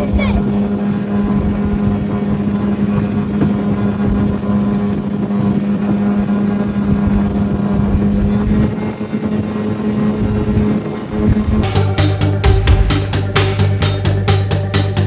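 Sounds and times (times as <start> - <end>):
jet boat engine humming: 0.0 - 15.0
wind buffeting microphone: 0.0 - 15.0.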